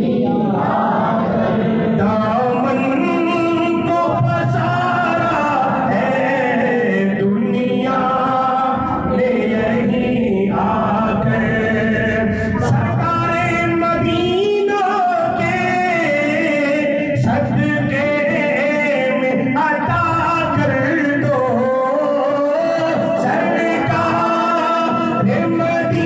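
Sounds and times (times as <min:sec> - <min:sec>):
man singing devotional poem: 0:00.0 - 0:26.0.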